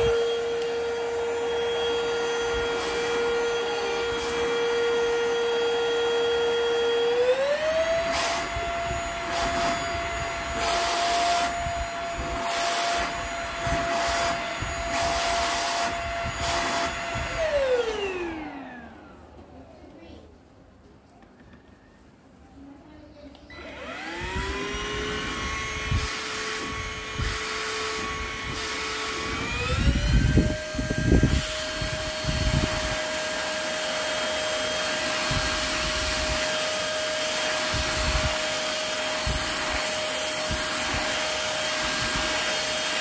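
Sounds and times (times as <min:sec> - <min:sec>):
vacuum cleaner motor whine: 0:00.0 - 0:19.6, 0:23.5 - 0:43.0.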